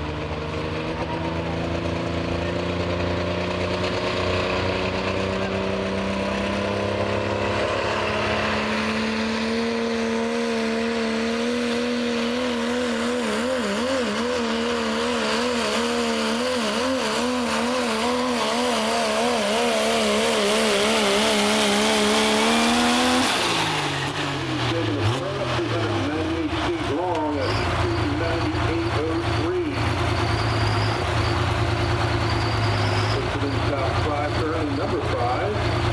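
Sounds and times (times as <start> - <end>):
diesel truck engine under load: 0.0 - 35.9.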